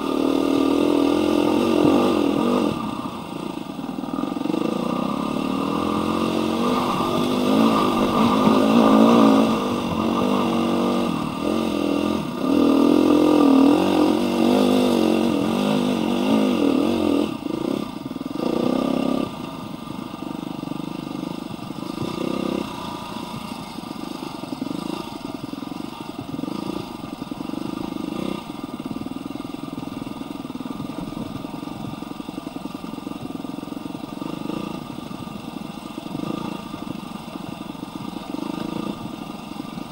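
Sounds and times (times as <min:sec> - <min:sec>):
dirt bike engine revving: 0:00.0 - 0:29.0, 0:34.2 - 0:34.9, 0:36.0 - 0:39.9.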